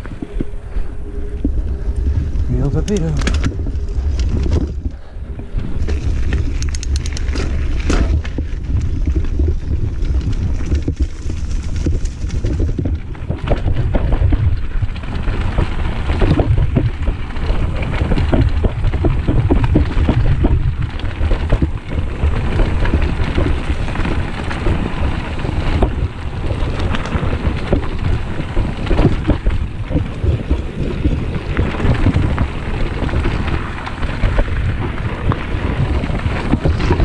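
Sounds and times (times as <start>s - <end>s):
bike rattling and clicking: 0.0s - 37.0s
tyres rolling on dirt: 0.0s - 37.0s
wind rumbling on microphone: 0.0s - 37.0s.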